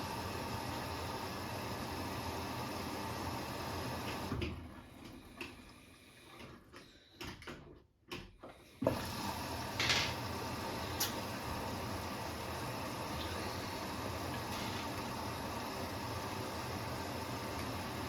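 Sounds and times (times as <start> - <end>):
washing machine hissing: 0.0 - 7.3, 8.5 - 18.0.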